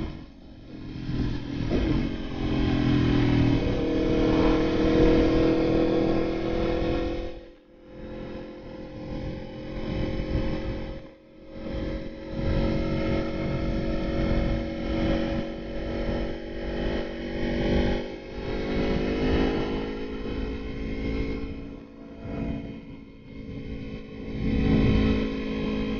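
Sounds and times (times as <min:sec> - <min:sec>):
motorcycle engine running: 0:00.0 - 0:25.9
road noise: 0:00.0 - 0:25.9
wind noise: 0:01.1 - 0:07.4, 0:09.0 - 0:16.0, 0:17.6 - 0:25.9.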